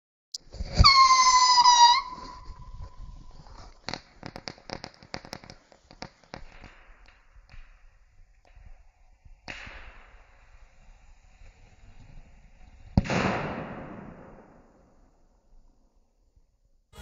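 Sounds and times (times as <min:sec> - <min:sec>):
firework pops and crackles: 0:00.4 - 0:15.6.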